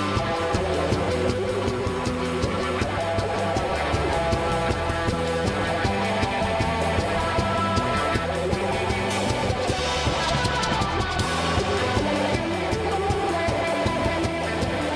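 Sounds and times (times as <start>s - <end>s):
bass guitar: 0.0s - 14.9s
drum kit beat: 0.0s - 14.9s
electric guitar: 0.0s - 14.9s.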